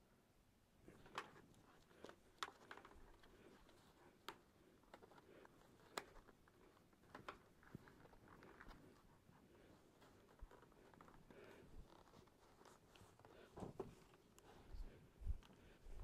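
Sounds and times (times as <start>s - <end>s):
fabric pad rustling: 0.8s - 16.0s.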